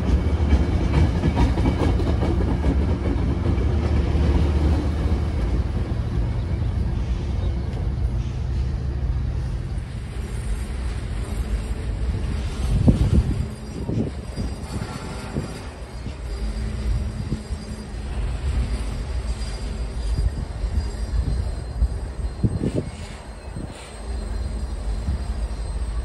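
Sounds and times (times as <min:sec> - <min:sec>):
diesel locomotive engine drone: 0:00.0 - 0:26.0
train rail noise: 0:00.0 - 0:26.0.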